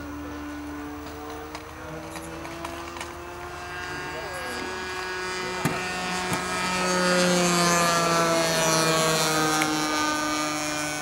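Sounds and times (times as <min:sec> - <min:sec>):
model airplane engine running: 0:00.0 - 0:11.0.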